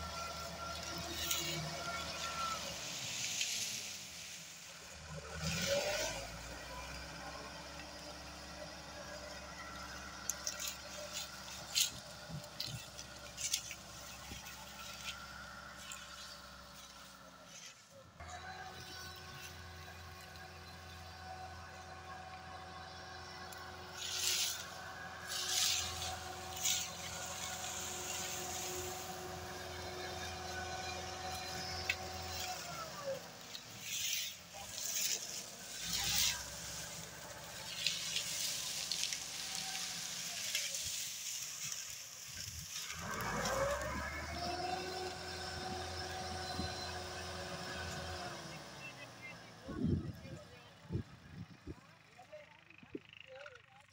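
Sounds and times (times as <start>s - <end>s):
tractor diesel engine working: 0.0s - 53.9s.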